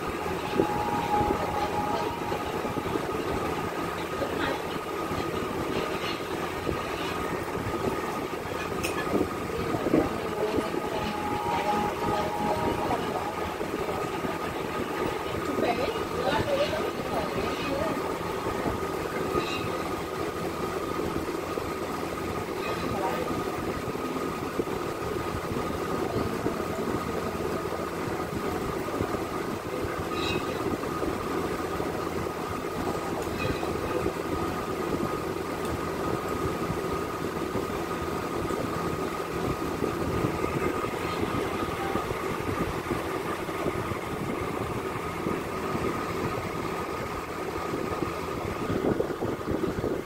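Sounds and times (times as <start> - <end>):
mechanical hum with high whine: 0.0 - 50.0.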